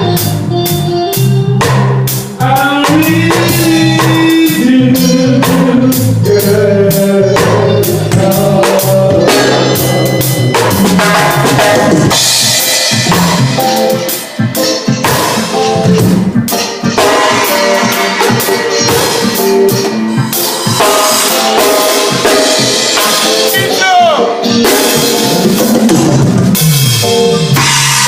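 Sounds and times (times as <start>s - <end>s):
drum kit playing groove: 0.0s - 28.0s
live band music: 0.0s - 28.0s.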